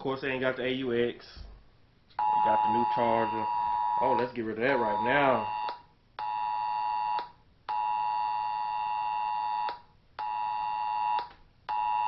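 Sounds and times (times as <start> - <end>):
electronic alarm beeps: 2.2 - 12.0.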